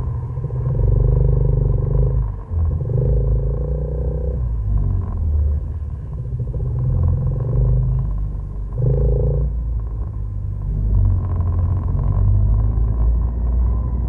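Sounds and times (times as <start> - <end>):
off-road vehicle engine rumbling: 0.0 - 14.0.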